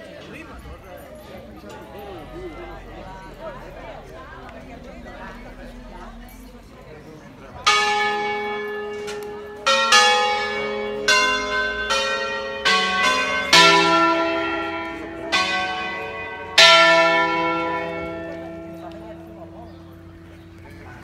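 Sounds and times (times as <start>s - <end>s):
church bells ringing a tune: 0.4s - 6.6s, 7.5s - 21.0s.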